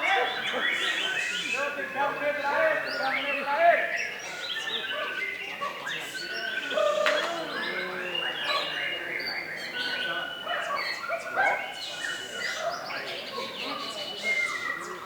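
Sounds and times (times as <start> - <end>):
many songbirds singing: 0.0 - 15.0.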